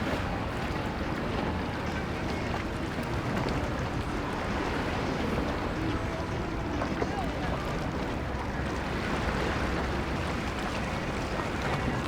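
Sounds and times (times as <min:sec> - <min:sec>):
boat engine running: 0:00.0 - 0:12.0
waves: 0:00.0 - 0:12.0.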